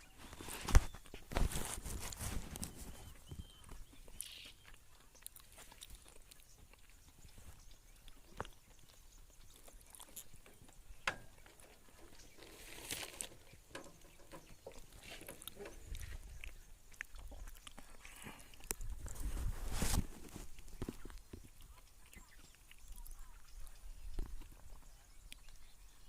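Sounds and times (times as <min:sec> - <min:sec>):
birds pecking seeds: 0:00.0 - 0:26.0.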